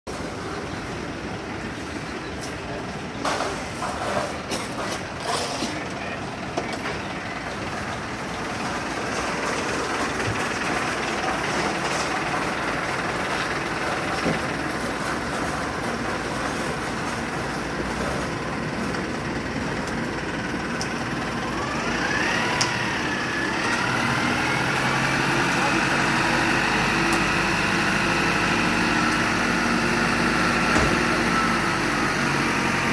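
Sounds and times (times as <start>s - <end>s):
construction din: 0.1s - 32.9s
heavy vehicle engine running: 0.1s - 32.9s.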